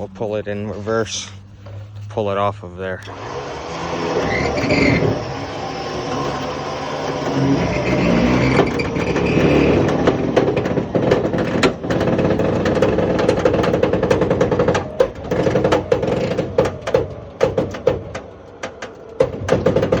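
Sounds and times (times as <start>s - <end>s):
truck diesel engine under load: 0.0s - 20.0s
metal knocks and clanks: 3.8s - 20.0s.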